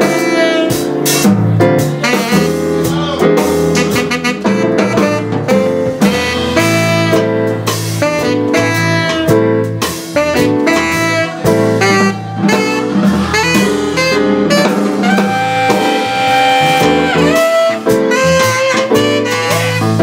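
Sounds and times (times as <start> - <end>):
drums: 0.0 - 20.0
piano: 0.0 - 20.0
tenor saxophone soloing: 0.0 - 20.0
upright bass: 0.0 - 20.0.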